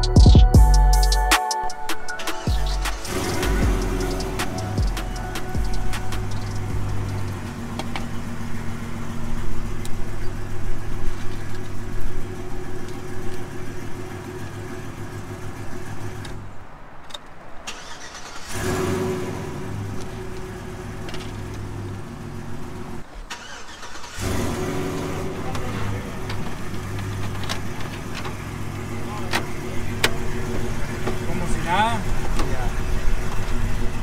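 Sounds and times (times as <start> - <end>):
truck engine idling: 2.0 - 16.8, 17.7 - 34.0.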